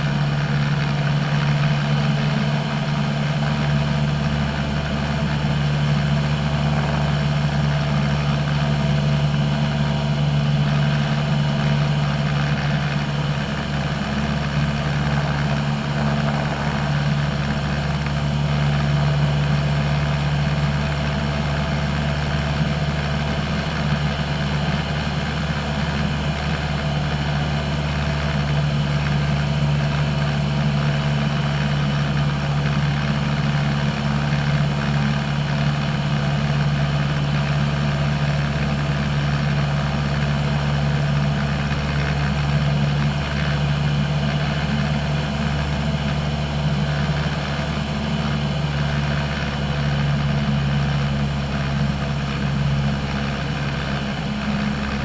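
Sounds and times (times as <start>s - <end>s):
light airplane engine drone: 0.0s - 55.0s.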